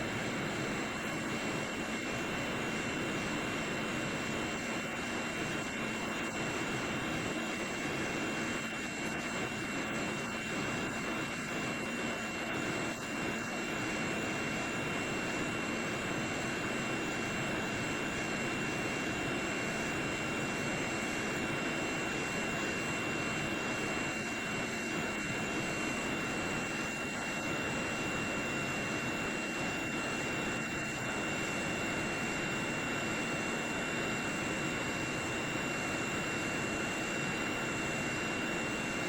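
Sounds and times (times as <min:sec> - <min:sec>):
high-pitched blower whine: 0:00.0 - 0:39.0.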